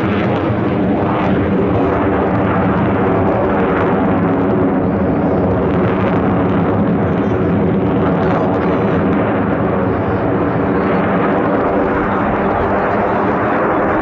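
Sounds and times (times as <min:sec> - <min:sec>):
fighter jets flying overhead: 0:00.0 - 0:14.0.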